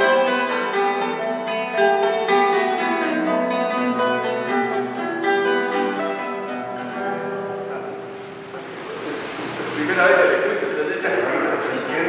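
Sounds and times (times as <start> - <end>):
classical guitars playing: 0.0 - 12.0.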